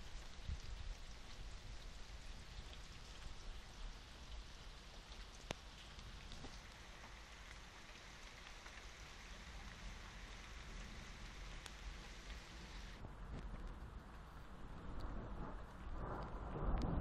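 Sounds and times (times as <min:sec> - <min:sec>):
rain hissing: 0:00.0 - 0:16.7
raindrop ticks: 0:00.0 - 0:17.0.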